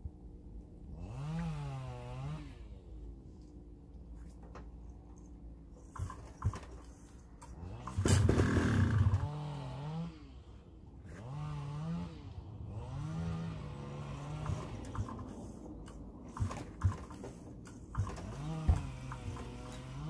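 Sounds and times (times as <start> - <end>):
recoil pull-starter whirr: 0.9 - 20.0.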